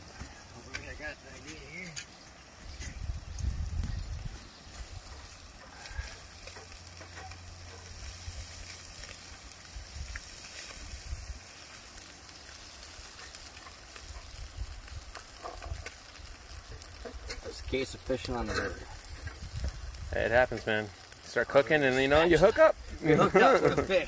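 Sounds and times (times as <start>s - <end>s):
fish sizzling on a grill: 0.0s - 24.0s.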